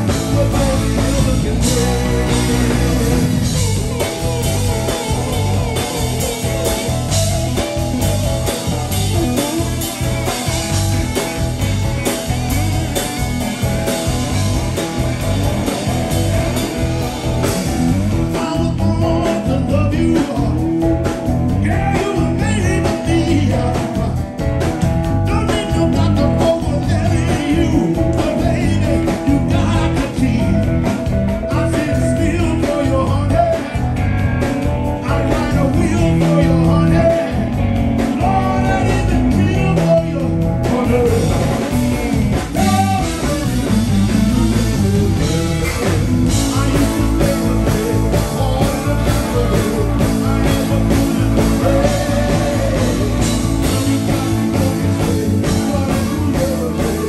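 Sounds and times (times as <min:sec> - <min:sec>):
person singing: 0:00.0 - 0:11.2, 0:17.4 - 0:24.3, 0:25.2 - 0:34.0, 0:35.0 - 0:57.0
bass guitar: 0:00.0 - 0:57.0
drums: 0:00.0 - 0:57.0
electric guitar: 0:00.0 - 0:57.0.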